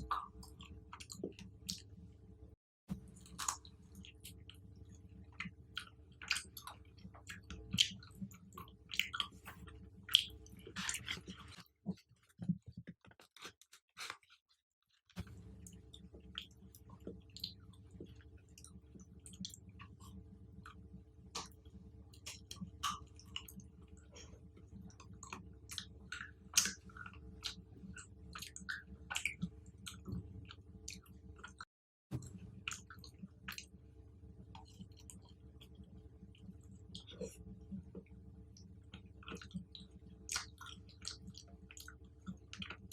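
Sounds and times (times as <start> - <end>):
chewing with crisp crunches: 0.0 - 2.0, 2.9 - 14.5, 15.2 - 33.8, 34.5 - 42.9.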